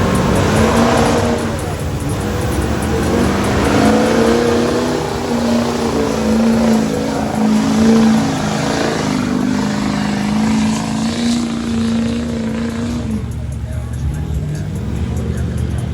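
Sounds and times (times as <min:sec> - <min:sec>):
large vehicle engine revving: 0:00.0 - 0:15.9.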